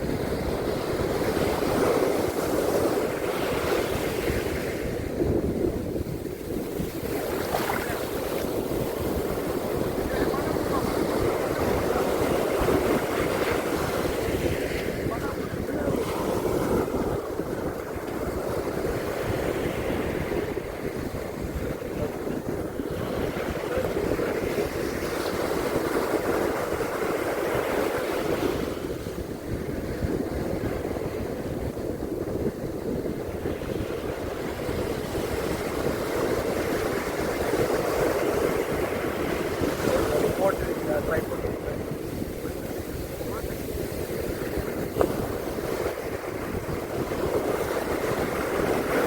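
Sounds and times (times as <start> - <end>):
sea surf washing on beach: 0.0 - 49.0.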